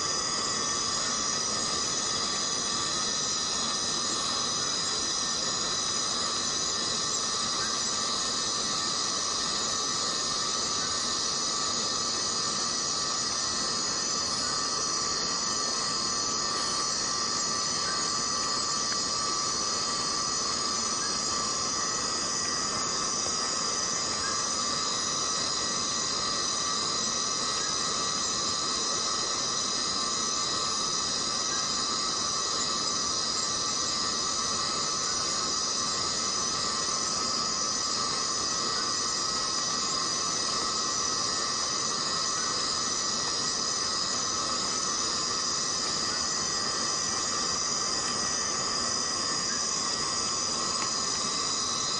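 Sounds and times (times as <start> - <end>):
cicadas buzzing: 0.0 - 51.9.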